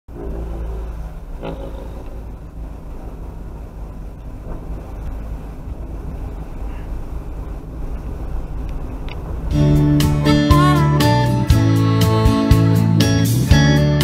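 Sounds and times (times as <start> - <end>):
car engine and road rumble: 0.1 - 14.0.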